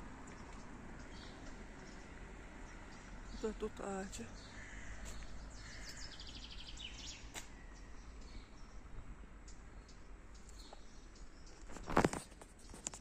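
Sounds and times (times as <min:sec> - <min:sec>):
outdoor background noise: 0:00.0 - 0:13.0
songbirds chirping: 0:00.0 - 0:13.0.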